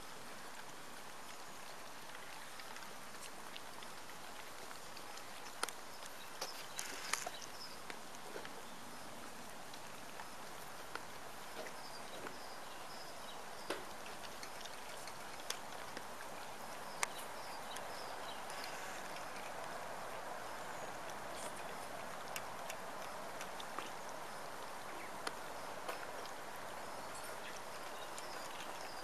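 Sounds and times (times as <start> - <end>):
puppies chewing and lapping: 0.1 - 29.0.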